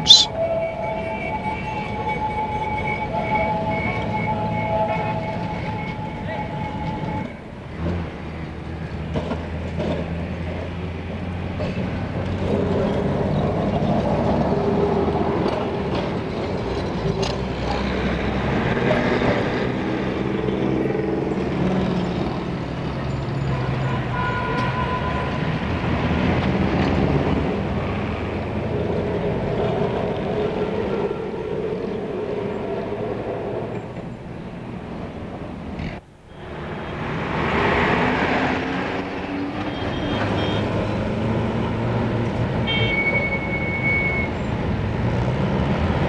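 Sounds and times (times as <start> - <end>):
tram motor hum and rumble: 0.0 - 42.7.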